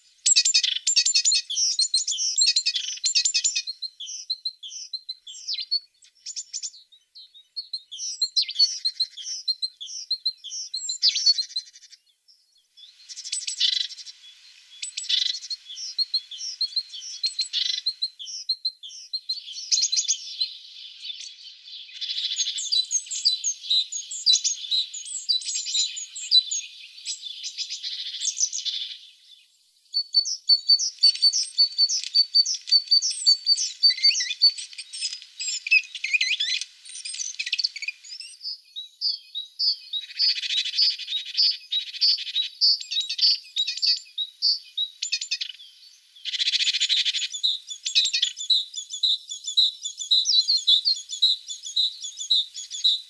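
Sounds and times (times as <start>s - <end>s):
birds chirping and twittering: 0.0s - 53.0s.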